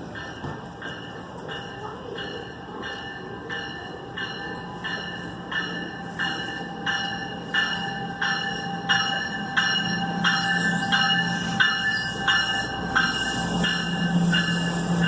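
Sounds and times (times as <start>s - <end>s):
train rumbling: 0.0s - 15.0s
train warning bell ringing: 0.0s - 15.0s.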